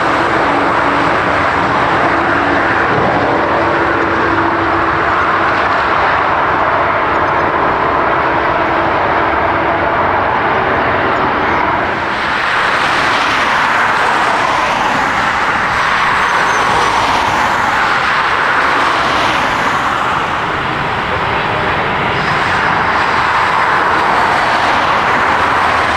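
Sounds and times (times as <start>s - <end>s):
jet airliner engines roaring: 0.0s - 25.9s.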